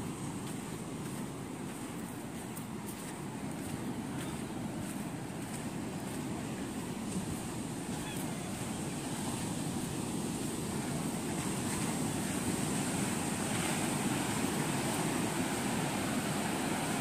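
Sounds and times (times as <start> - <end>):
sea surf breaking on beach: 0.0 - 17.0.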